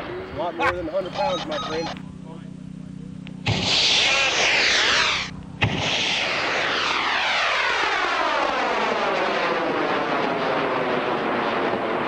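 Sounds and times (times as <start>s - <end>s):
rocket motor roaring: 0.0s - 12.0s.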